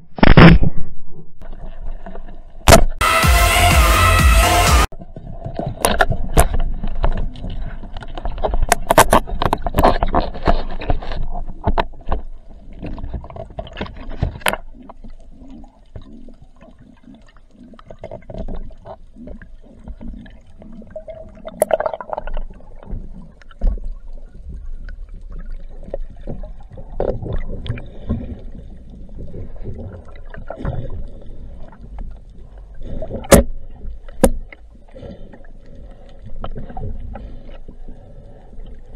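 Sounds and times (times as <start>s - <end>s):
muffled water swishing underwater: 0.0s - 3.0s, 4.9s - 38.9s.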